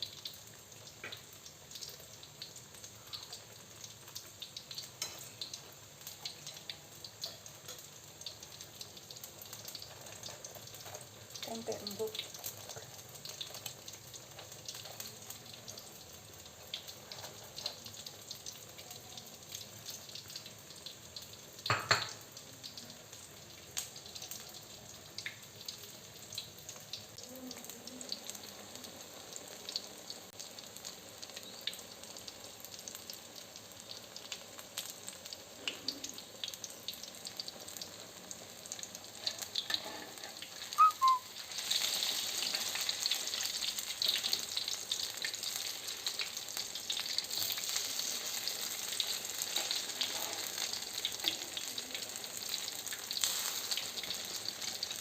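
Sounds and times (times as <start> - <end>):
battered food frying in hot oil: 0.0 - 55.0.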